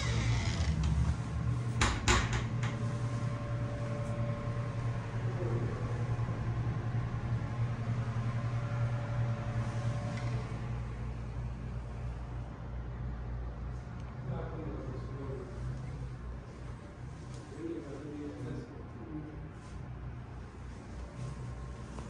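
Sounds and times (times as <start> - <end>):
electric fan hum: 0.0 - 22.0.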